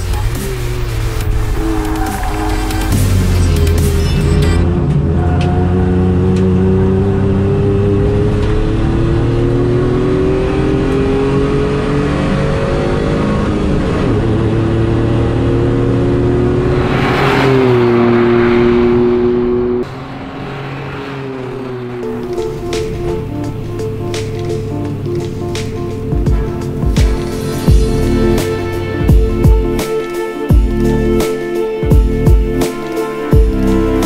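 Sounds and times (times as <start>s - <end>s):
race car engine revving: 0.0s - 28.8s.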